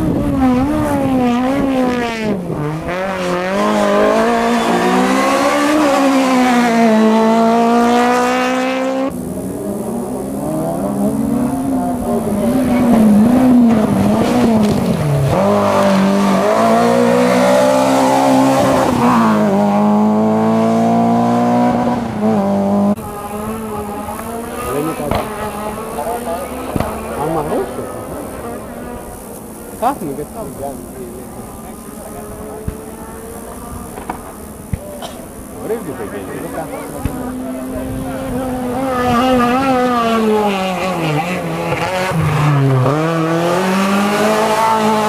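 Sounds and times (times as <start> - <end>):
rally car engines at full throttle: 0.0 - 45.0.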